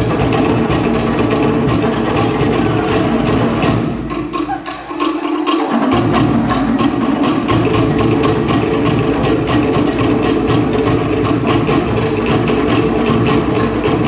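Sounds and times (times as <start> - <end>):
large bass drum: 0.0 - 4.6, 5.9 - 14.0
slit log drums beating fast: 0.0 - 14.0.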